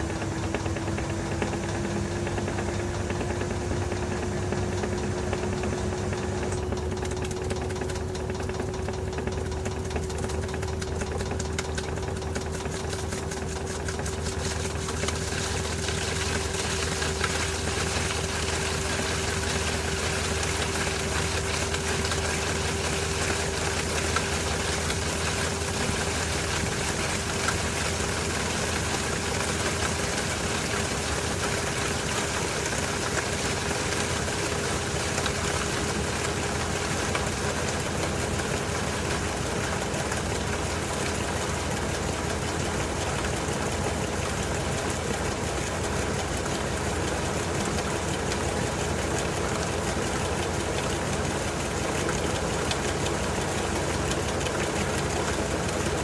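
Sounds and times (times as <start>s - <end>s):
washing machine motor whine: 0.0s - 56.0s.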